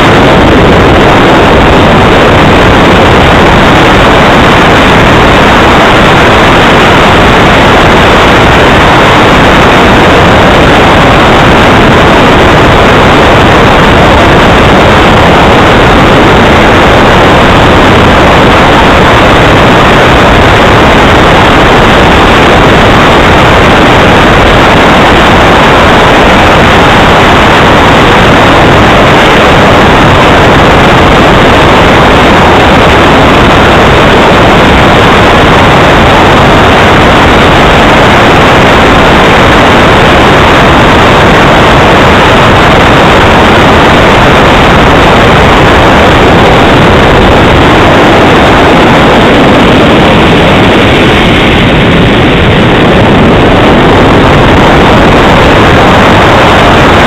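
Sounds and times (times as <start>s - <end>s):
model jet engine roaring: 0.0s - 57.0s.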